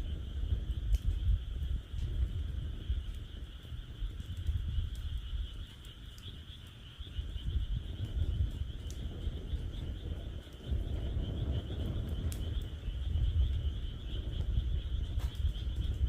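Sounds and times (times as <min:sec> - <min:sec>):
wood fire crackling and popping: 0:00.0 - 0:16.0
frogs calling: 0:02.6 - 0:16.0.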